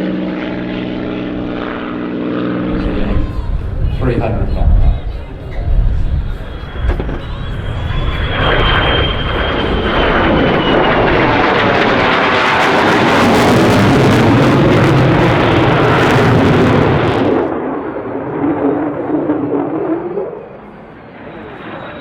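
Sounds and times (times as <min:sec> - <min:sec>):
aircraft flying past low: 0:00.0 - 0:22.0.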